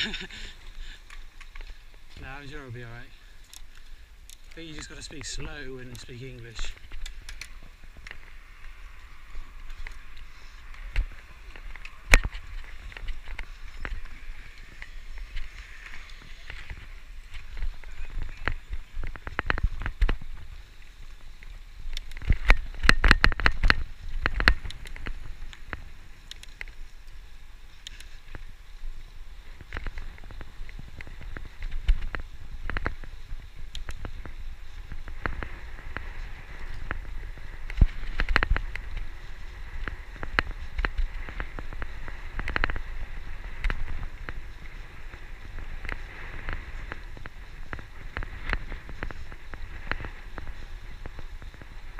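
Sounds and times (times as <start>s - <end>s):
bike rattles over road bumps: 0.8s - 51.9s
wind rumble on microphone: 1.2s - 51.9s.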